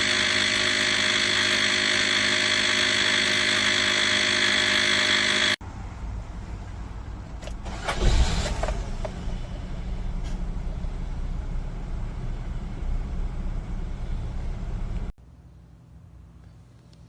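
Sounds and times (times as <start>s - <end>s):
engine rumbling: 0.0s - 15.2s.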